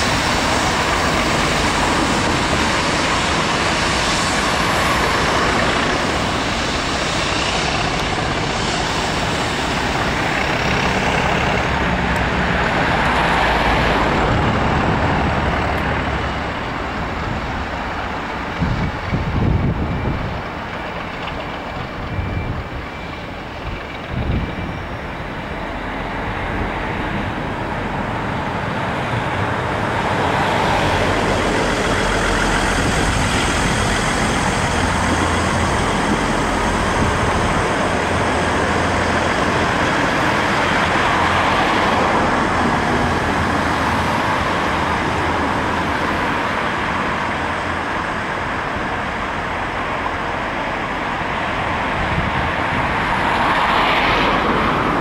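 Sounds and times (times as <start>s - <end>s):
diesel train engines: 0.0s - 55.0s
train wheels on rails: 0.0s - 55.0s.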